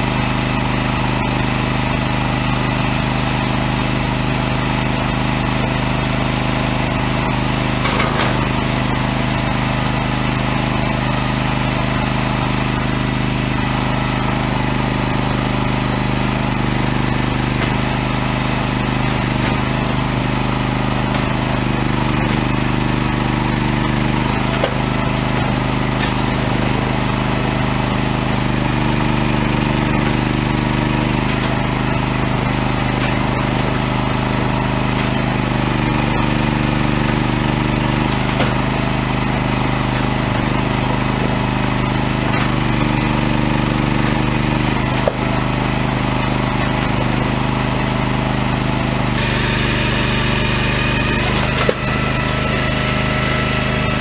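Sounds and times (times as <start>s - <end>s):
engine droning: 0.0s - 54.0s.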